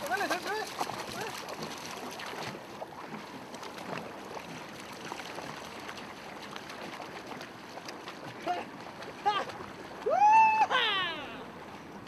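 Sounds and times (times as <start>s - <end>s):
faint oar splashes: 0.0s - 12.0s
water lapping around rowboat: 0.0s - 12.0s.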